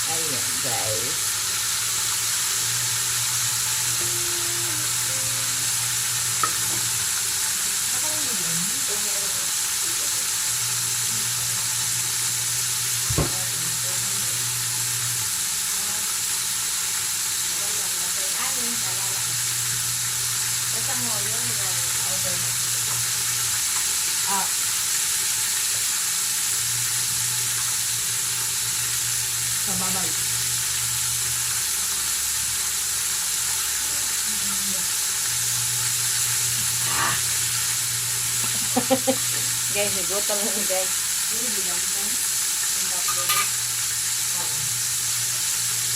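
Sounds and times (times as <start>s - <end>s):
chicken frying in hot oil: 0.0s - 45.9s.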